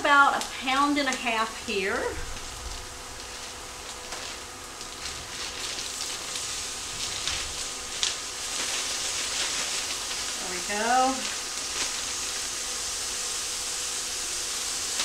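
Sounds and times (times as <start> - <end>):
onions sizzling in a skillet: 0.0 - 15.0
plastic bag crinkling: 0.4 - 14.0.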